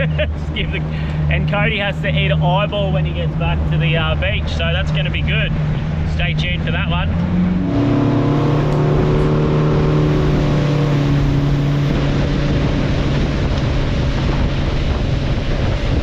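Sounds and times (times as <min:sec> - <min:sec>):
boat engine running: 0:00.0 - 0:16.0
water rushing: 0:00.0 - 0:16.0
wind: 0:00.0 - 0:16.0.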